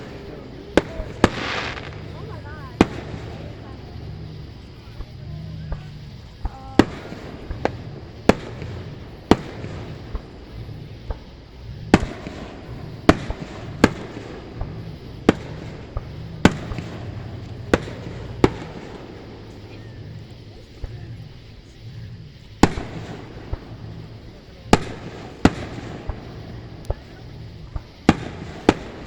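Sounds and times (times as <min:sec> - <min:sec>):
fireworks exploding: 0:00.0 - 0:29.0.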